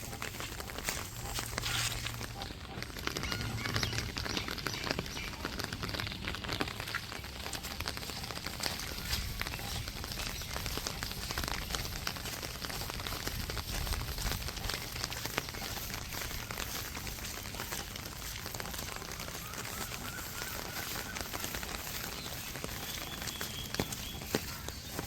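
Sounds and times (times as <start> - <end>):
rain falling on a street: 0.0 - 25.0.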